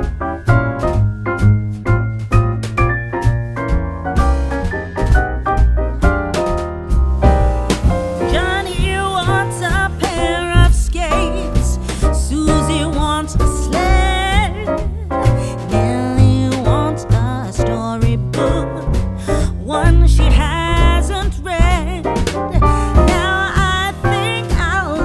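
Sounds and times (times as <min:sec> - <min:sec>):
piano over a steady beat: 0:00.0 - 0:25.0.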